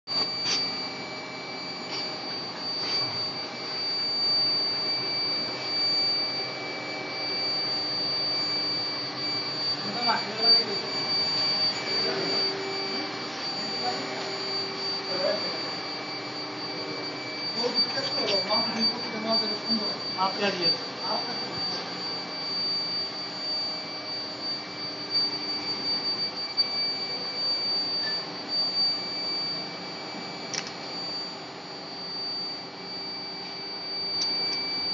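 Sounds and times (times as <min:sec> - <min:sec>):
furnace high-pitched whine: 0:00.1 - 0:34.9
machine hum: 0:00.1 - 0:34.9.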